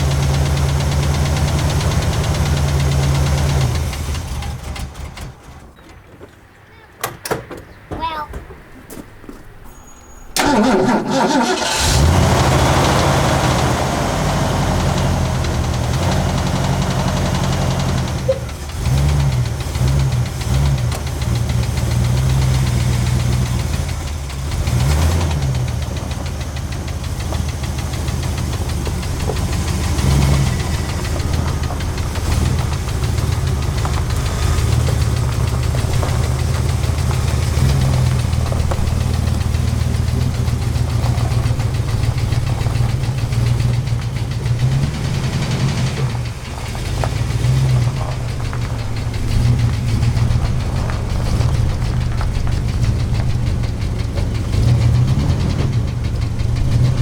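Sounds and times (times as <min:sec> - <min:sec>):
truck engine knocking and revving: 0:00.0 - 0:57.0.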